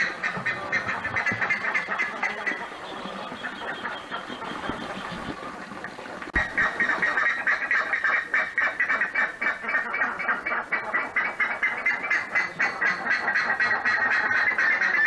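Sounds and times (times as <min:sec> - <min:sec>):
ibis honking calls: 0:00.0 - 0:05.4, 0:06.4 - 0:15.0.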